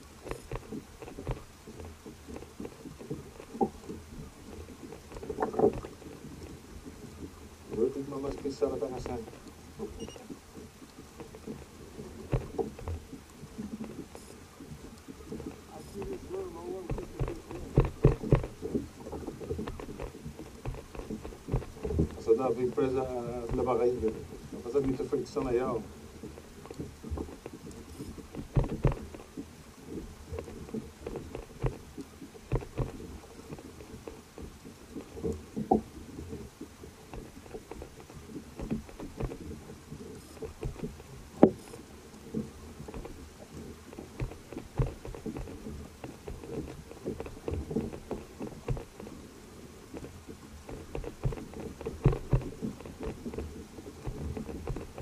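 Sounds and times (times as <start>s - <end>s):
knocks and taps on boat: 0.0s - 6.6s, 11.2s - 49.3s, 49.9s - 55.0s
water lapping against hull: 0.0s - 55.0s.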